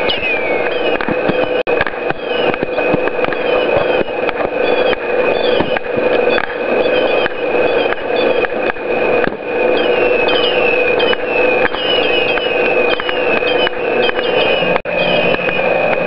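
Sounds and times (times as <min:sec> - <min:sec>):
model boat motor whine: 0:00.0 - 0:16.0
crackling clicks: 0:00.6 - 0:16.0.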